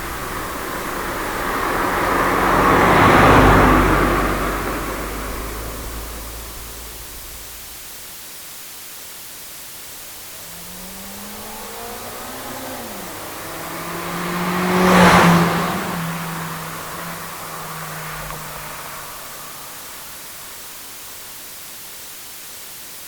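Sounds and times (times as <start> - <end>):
car driving past: 0.0 - 8.0, 10.0 - 21.1.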